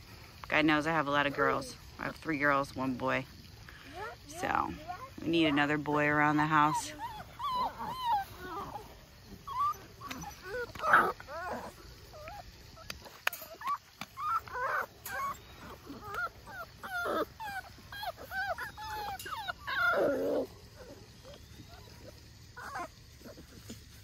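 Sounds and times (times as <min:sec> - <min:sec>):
puppies whining and yipping: 0:03.8 - 0:24.0.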